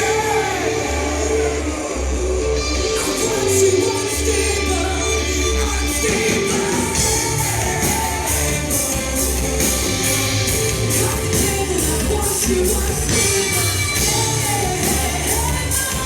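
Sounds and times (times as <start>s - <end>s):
heavy rock band playing: 0.0s - 16.0s
person singing: 0.0s - 16.0s.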